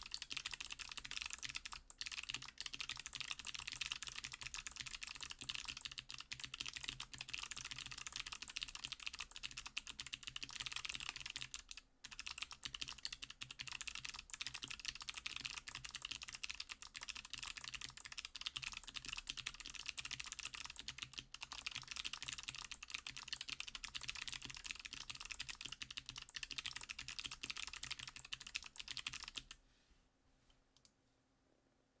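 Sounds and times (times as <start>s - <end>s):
fast typing on clicky keyboard: 0.0s - 29.6s.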